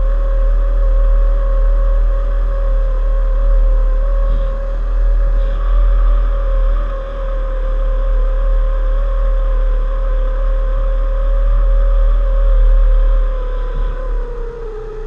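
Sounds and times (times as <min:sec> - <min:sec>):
heavy low rumble: 0:00.0 - 0:15.0.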